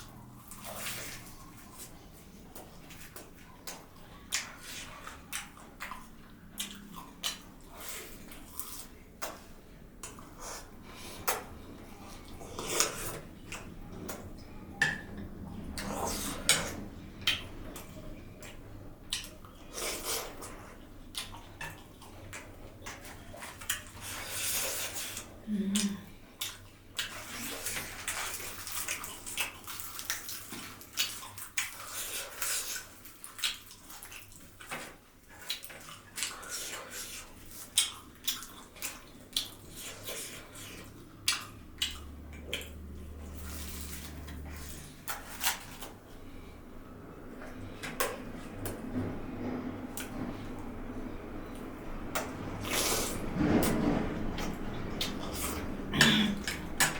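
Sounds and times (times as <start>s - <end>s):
chewing and mouth sounds: 0.0s - 49.1s.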